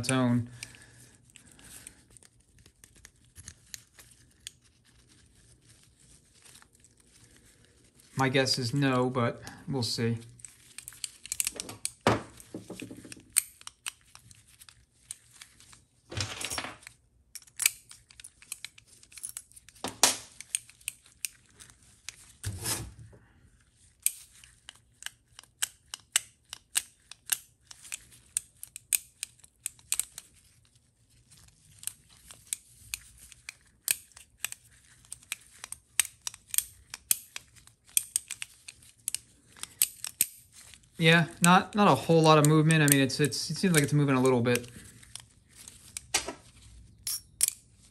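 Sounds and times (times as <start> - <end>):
gloved hands rustling: 0.0 - 47.9.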